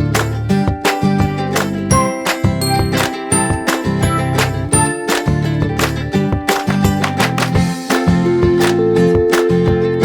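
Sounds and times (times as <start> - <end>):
upbeat instrumental music: 0.0 - 9.5.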